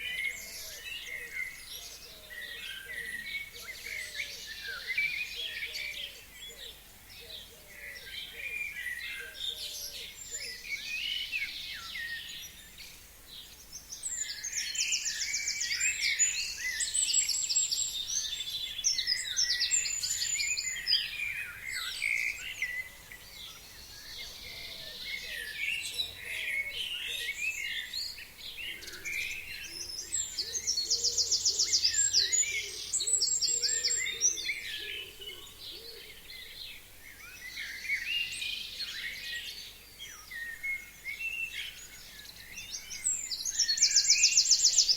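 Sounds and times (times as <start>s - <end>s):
songbirds chorus: 0.0s - 44.9s.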